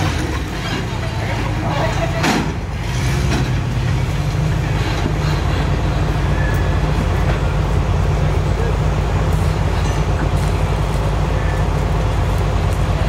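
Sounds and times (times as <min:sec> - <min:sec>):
engine and drivetrain rumble: 0:00.0 - 0:13.0.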